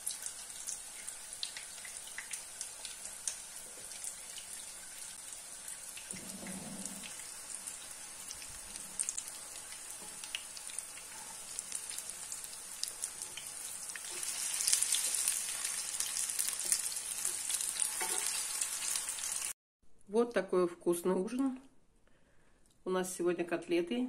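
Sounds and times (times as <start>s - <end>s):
patties sizzling in oil: 0.0s - 19.6s.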